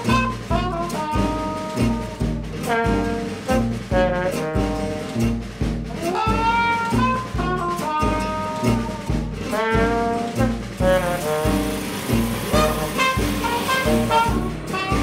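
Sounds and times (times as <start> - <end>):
jazzy music with brass horns: 0.0 - 15.0.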